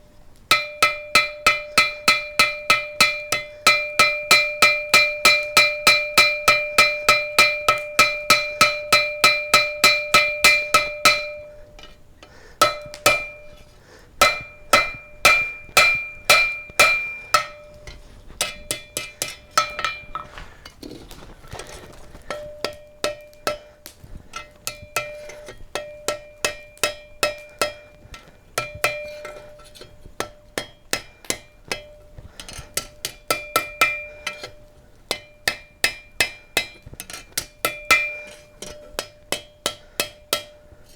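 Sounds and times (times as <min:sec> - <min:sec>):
hammer blows ringing on anvil: 0:00.5 - 0:12.0, 0:12.6 - 0:20.5, 0:22.3 - 0:29.6, 0:32.8 - 0:34.5, 0:35.1 - 0:40.6.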